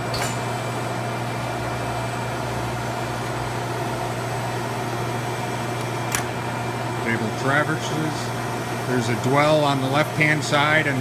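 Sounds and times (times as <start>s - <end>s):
grinder humming: 0.0s - 11.0s.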